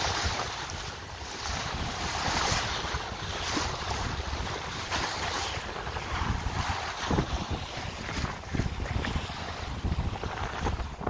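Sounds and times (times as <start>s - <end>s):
water splashing along hull: 0.0s - 11.0s
wind buffeting microphone: 0.0s - 11.0s.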